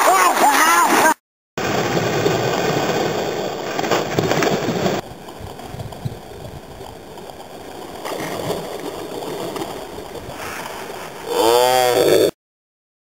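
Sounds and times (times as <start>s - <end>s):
running water rushing: 0.0s - 11.5s.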